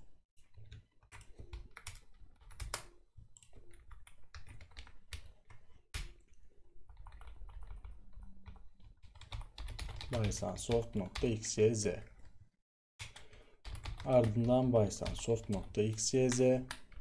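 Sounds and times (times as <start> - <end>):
keyboard typing: 0.4 - 11.4, 13.0 - 17.0.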